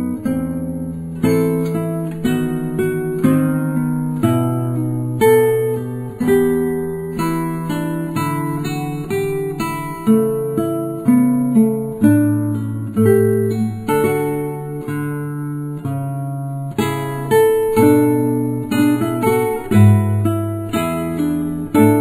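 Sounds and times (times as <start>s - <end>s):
acoustic guitar picking melody: 0.0s - 22.0s.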